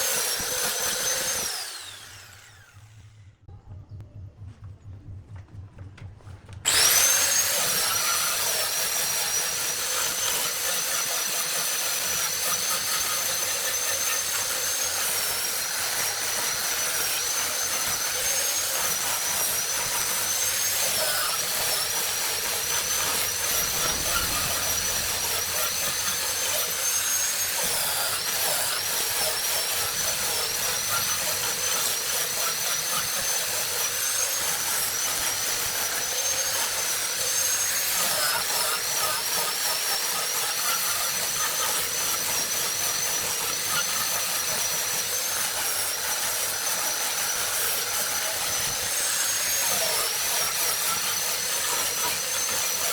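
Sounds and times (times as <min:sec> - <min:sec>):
high-speed power tool whining: 0:00.0 - 0:03.4, 0:06.6 - 0:52.9.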